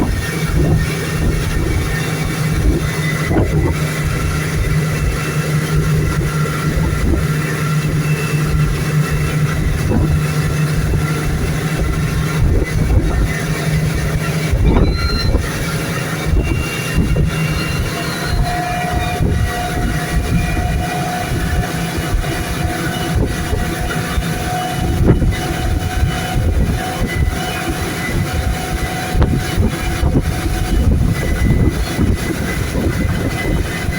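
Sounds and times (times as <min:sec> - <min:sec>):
motorboat engine running: 0:00.0 - 0:33.9
water rushing: 0:00.0 - 0:33.9
wind buffeting microphone: 0:00.0 - 0:33.9.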